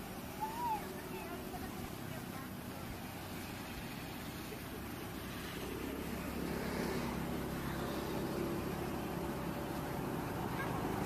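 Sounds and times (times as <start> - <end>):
steady engine hum: 0.0 - 11.0.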